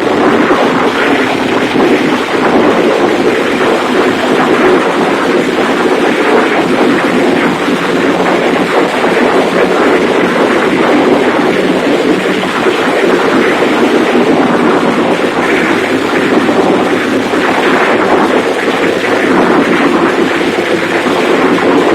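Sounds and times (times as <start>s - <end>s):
large engine running loud: 0.0s - 21.9s.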